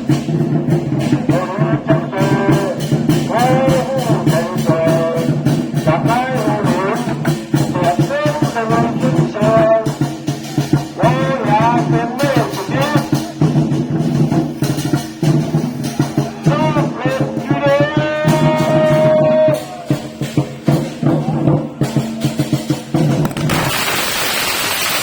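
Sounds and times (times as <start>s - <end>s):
drum beats and percussion: 0.0s - 25.0s.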